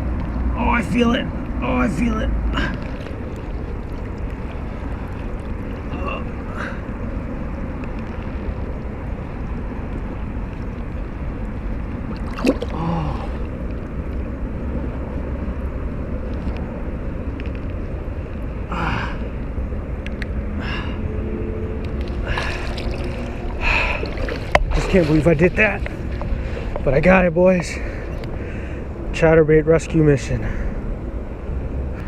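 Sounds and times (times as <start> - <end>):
water sloshing and gurgling: 0.0 - 29.2
steady low rumble: 0.0 - 32.0.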